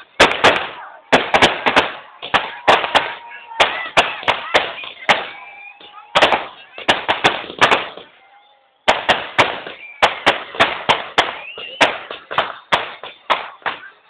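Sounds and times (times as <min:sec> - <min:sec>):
firecrackers bursting: 0:00.0 - 0:08.2, 0:08.8 - 0:14.0.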